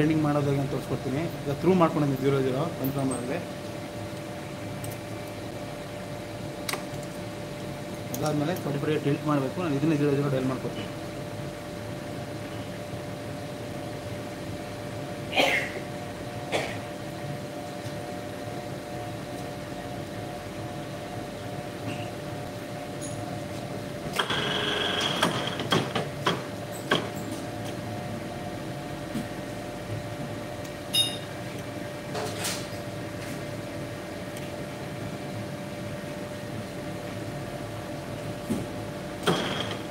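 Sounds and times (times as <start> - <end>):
workshop machinery humming: 0.0 - 39.9.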